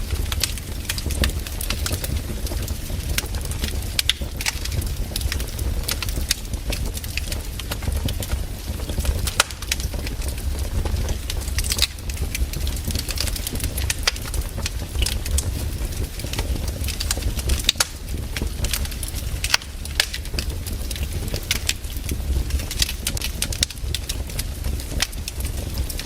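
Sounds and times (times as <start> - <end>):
firewood crackling and popping: 0.0 - 26.0
low steady rumble: 0.0 - 26.0.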